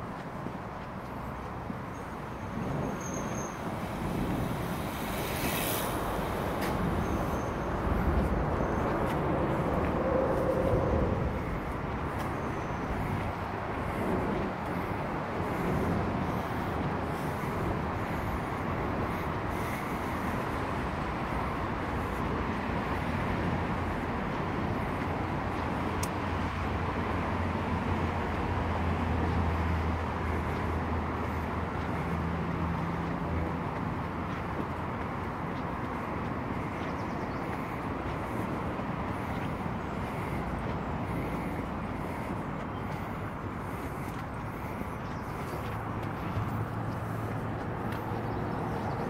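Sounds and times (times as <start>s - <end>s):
distant road traffic: 0.0s - 49.0s.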